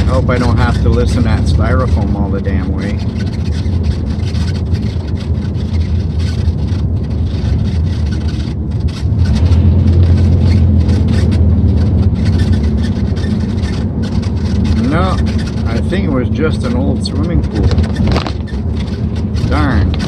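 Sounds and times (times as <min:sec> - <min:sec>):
road noise: 0:00.0 - 0:20.0
styrofoam rattling in wind: 0:00.0 - 0:20.0
truck engine drone: 0:00.0 - 0:20.0.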